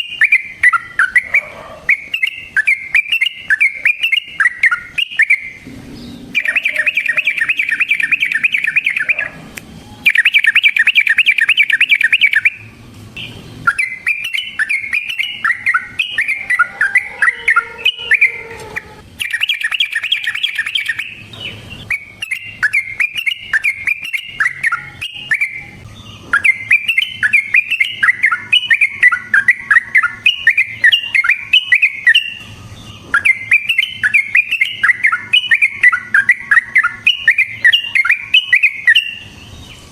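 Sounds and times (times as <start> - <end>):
bird singing trills and chatter: 0.0 - 39.9.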